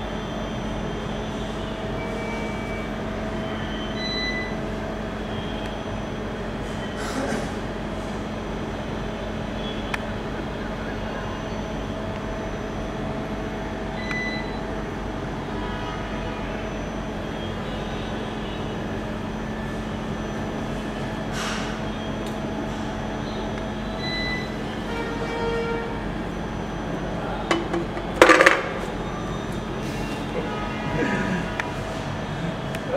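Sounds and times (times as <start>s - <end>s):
machinery hum: 0.0s - 32.9s.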